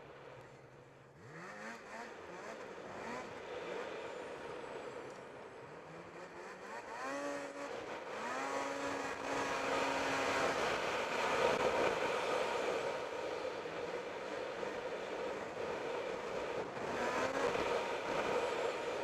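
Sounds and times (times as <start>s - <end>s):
snowmobile engine revving: 1.2s - 3.5s, 5.8s - 19.0s.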